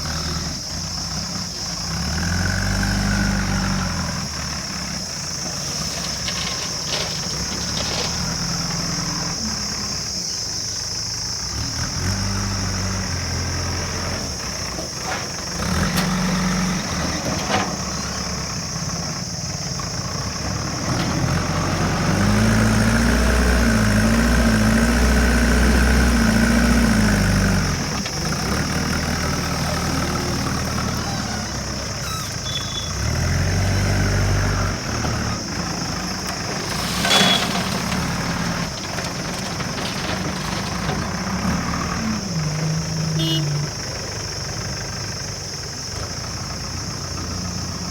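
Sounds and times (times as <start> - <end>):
diesel engine idling and revving: 0.0 - 47.9.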